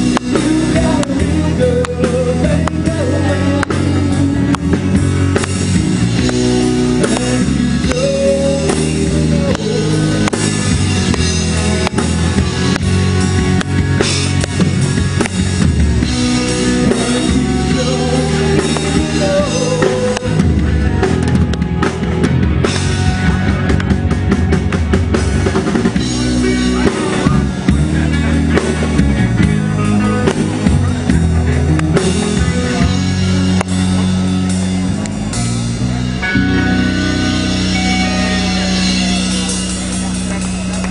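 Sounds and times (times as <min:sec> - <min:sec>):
rock band playing instrumental: 0:00.0 - 0:40.9.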